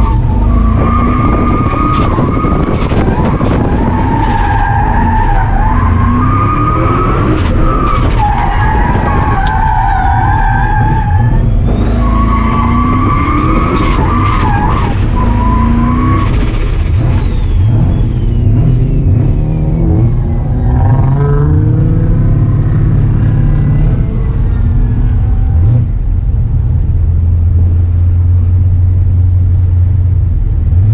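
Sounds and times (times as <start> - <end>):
car engine under load: 0.0 - 30.9.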